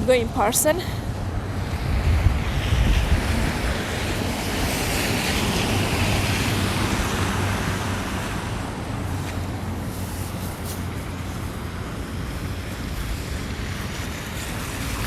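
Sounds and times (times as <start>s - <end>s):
tyres hissing on slushy road: 0.4s - 15.0s.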